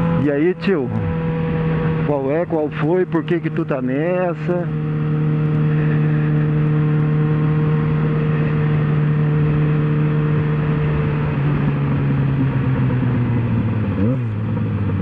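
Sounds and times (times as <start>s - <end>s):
motorcycle engine pulling: 0.0s - 15.0s
wind and road noise: 0.0s - 15.0s.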